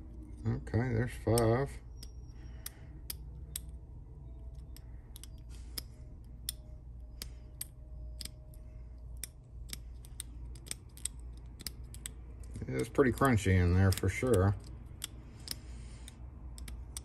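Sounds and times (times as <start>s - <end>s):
lock pins clicking: 0.0s - 17.0s.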